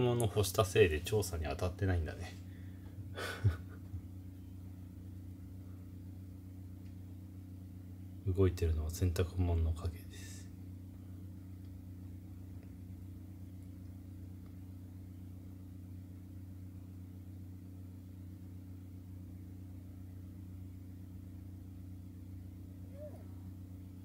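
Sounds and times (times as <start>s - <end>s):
low room tone hum: 0.0s - 24.0s.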